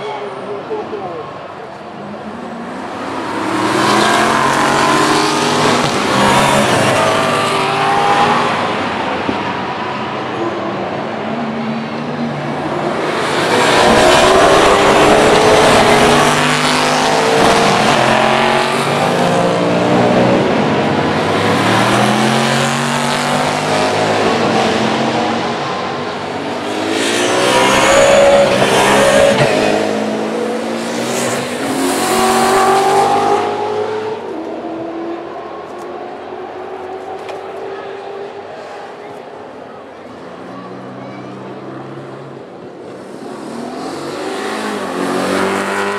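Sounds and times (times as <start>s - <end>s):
race cars braking and accelerating: 0.0s - 45.9s.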